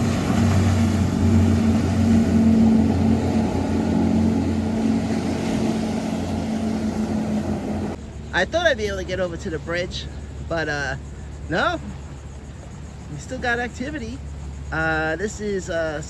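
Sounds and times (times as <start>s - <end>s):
outboard motorboat engines droning: 0.0s - 16.0s.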